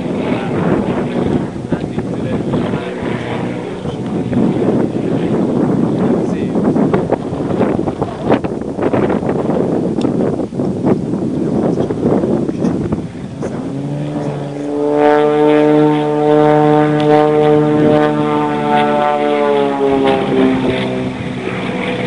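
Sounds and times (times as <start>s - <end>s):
propeller airplane flying past: 0.0s - 22.0s
wind noise on microphone: 0.0s - 22.0s.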